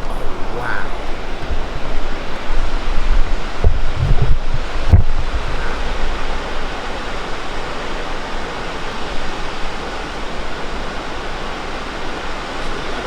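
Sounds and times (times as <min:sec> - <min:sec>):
waterfall roar: 0:00.0 - 0:13.0.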